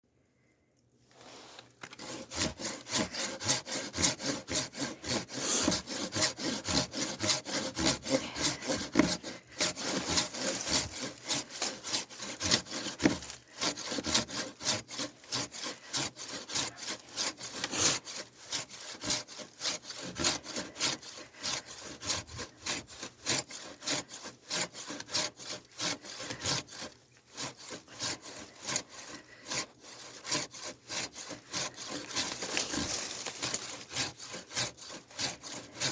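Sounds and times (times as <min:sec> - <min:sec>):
hand saw cutting wood: 0:01.2 - 0:35.9.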